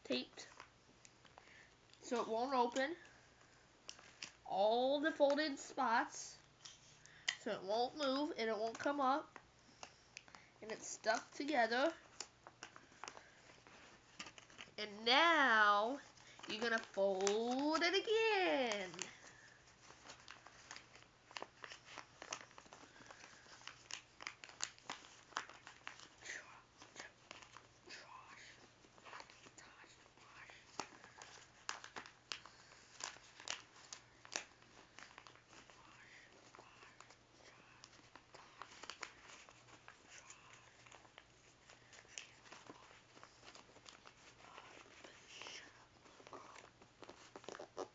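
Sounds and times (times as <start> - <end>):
paper folding and crinkling: 0.1 - 47.9.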